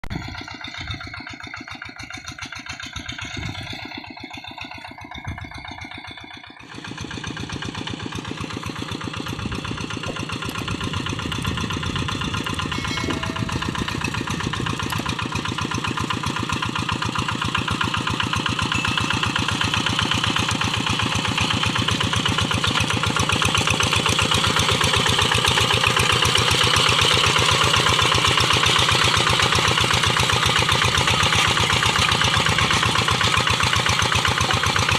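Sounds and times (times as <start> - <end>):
diesel engine knocking: 0.0 - 34.9.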